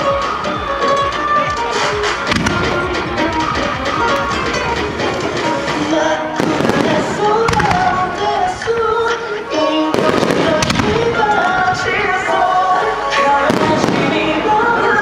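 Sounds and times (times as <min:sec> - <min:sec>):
fireworks crackling and banging: 0:00.0 - 0:15.0
music with held melody: 0:00.0 - 0:15.0.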